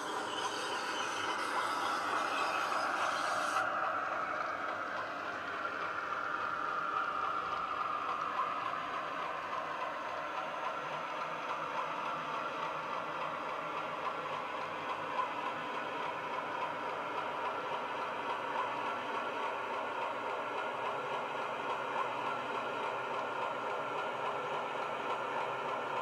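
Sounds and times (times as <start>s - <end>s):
model train diesel engine sound: 0.0s - 26.0s.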